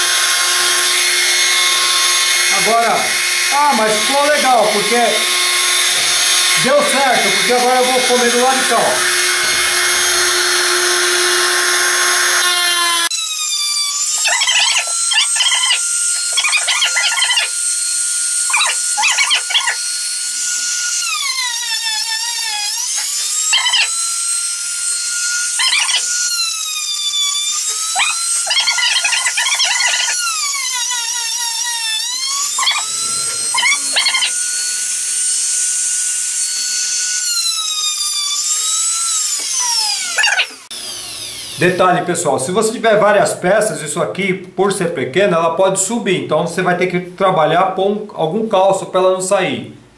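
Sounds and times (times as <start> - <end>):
router running with high whine: 0.0 - 42.1
router cutting groove in wood: 0.0 - 42.7.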